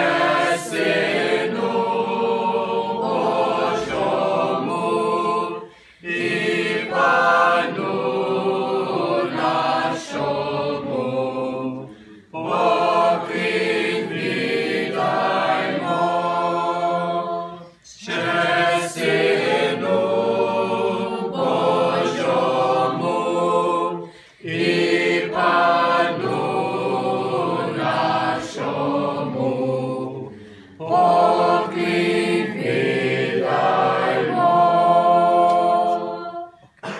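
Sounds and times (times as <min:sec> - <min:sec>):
mixed choir singing a carol: 0:00.0 - 0:36.9.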